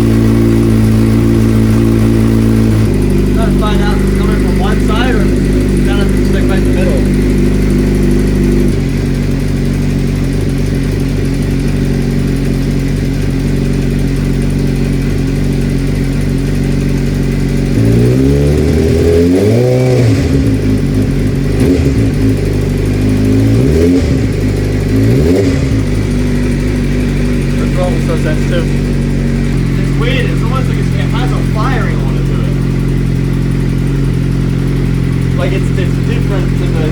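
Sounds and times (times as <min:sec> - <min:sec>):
engine clicking at idle: 0:00.0 - 0:36.9
motorcycle engine idling and revving: 0:00.0 - 0:36.9.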